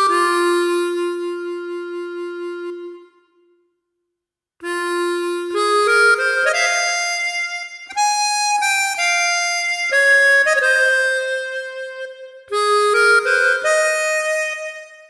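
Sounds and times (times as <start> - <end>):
keytar melody with reedy voice: 0.0 - 3.5, 4.6 - 15.0.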